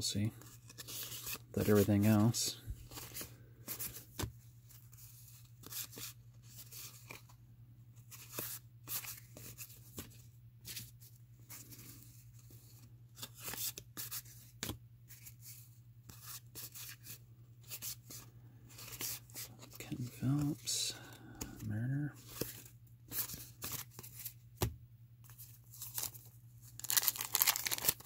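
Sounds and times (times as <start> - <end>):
cards shuffling: 0.4 - 7.3, 8.0 - 10.9, 11.5 - 28.0.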